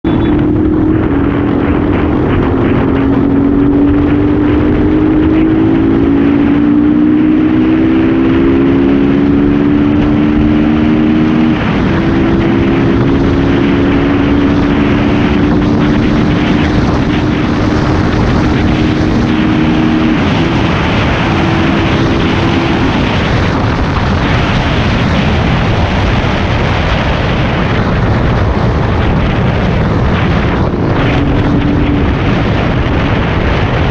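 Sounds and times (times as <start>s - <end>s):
motorcycle engine accelerating: 0.0s - 33.9s
wind rush on microphone: 0.0s - 33.9s.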